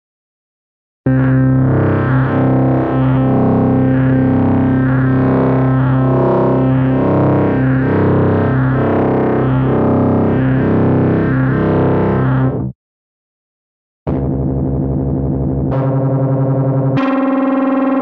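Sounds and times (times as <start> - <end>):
sustained low synth notes: 1.1 - 12.7, 14.1 - 18.0
distorted synthesizer pulsing line: 1.1 - 12.8, 14.1 - 18.0.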